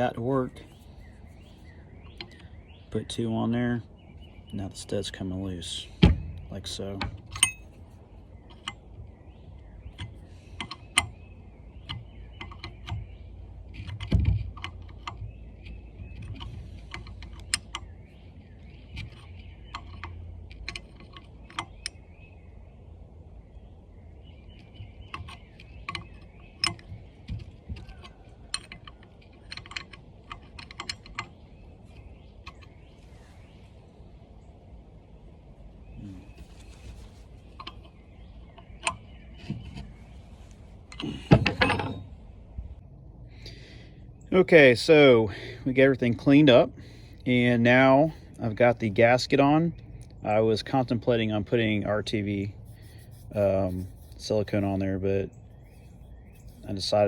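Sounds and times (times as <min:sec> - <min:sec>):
birds chirping faintly: 0:00.0 - 0:57.0.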